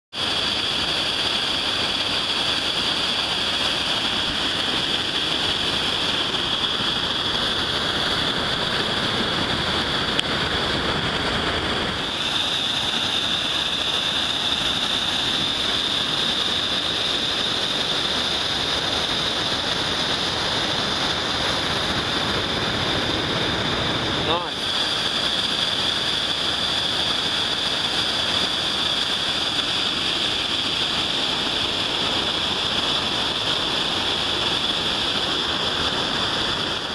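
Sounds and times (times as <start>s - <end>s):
waterfall rushing: 0.2s - 36.9s.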